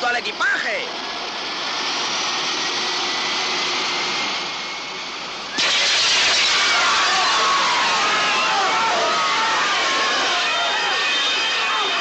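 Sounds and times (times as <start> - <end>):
jet engines running: 0.1 - 12.0.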